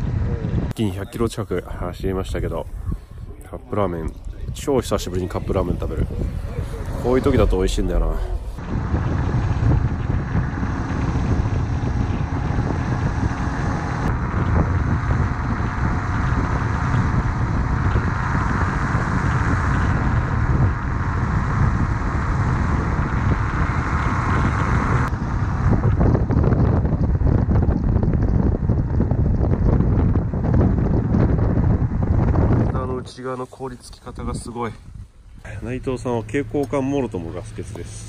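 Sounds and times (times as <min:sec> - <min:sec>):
motorcycle engine rumble: 0:00.0 - 0:33.0
wind noise on microphone: 0:00.0 - 0:38.0.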